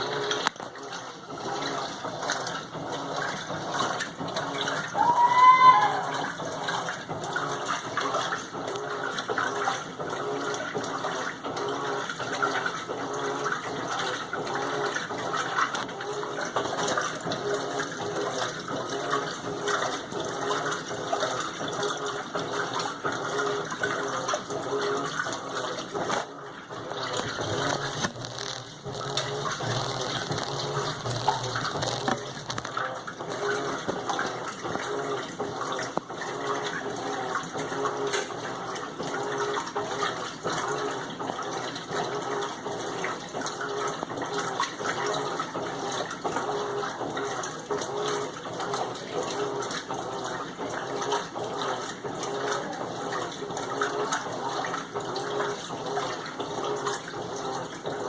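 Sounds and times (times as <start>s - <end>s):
water rushing in washing machine: 0.0s - 58.0s.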